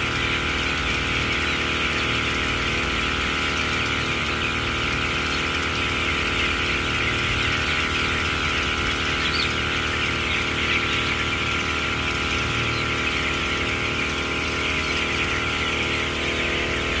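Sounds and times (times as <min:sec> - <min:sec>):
chicks peeping: 0:00.0 - 0:17.0
mechanical hum: 0:00.0 - 0:17.0.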